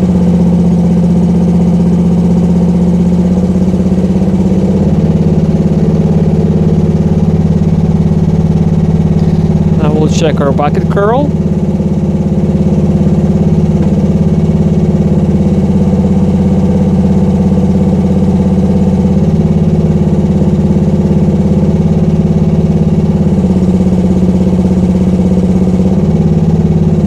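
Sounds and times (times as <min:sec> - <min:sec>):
excavator engine running: 0:00.0 - 0:27.0.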